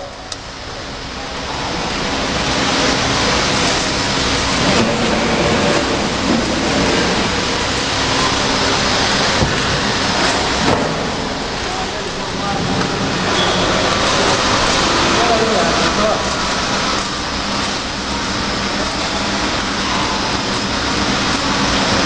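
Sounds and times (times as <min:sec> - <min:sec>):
hydraulic baler running: 0:00.0 - 0:22.0.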